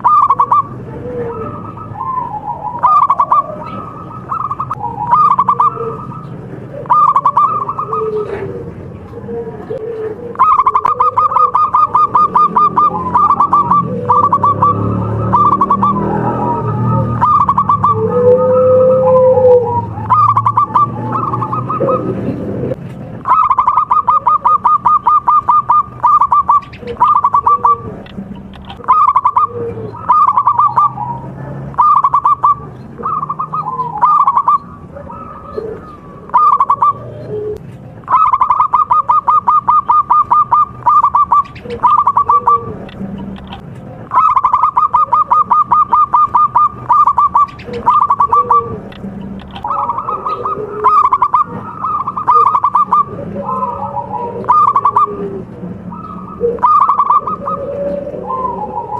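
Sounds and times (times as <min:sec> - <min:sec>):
doves cooing in trills: 0:00.0 - 0:58.9.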